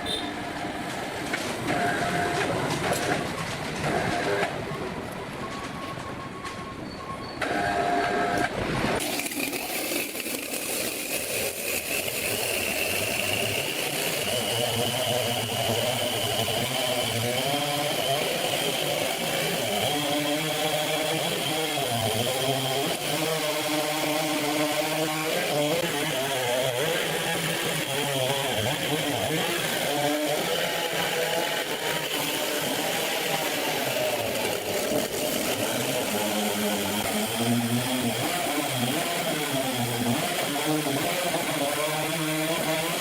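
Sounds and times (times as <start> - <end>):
sawmill machine running: 0.0 - 6.5, 7.4 - 43.0.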